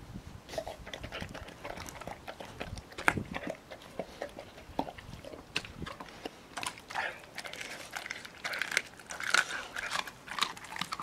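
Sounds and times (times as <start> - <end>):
dog chewing food: 0.5 - 11.0
sharp crunch: 0.5 - 11.0.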